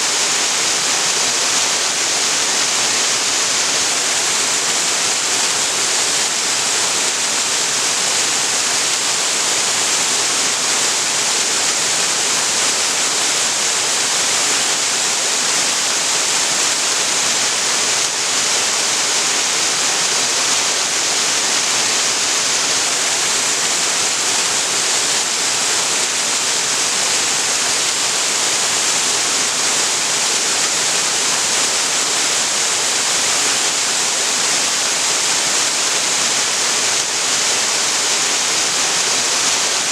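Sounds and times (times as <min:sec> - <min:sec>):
waterfall pouring into pool: 0:00.0 - 0:39.9.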